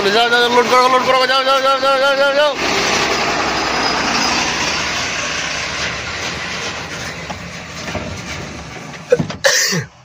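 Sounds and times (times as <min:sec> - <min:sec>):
truck rumbling and rattling: 0:00.0 - 0:10.0.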